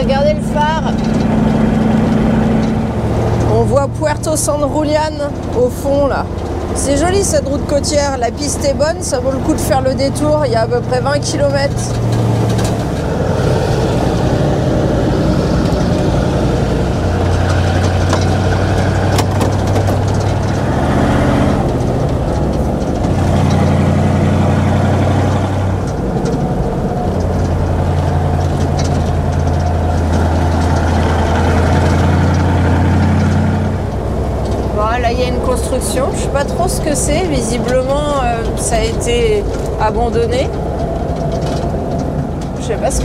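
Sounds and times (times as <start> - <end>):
truck diesel engine running: 0.0 - 43.0.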